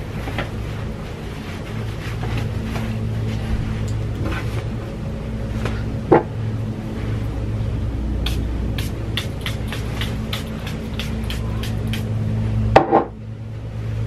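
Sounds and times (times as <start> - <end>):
music with low bass drone: 0.0 - 14.0.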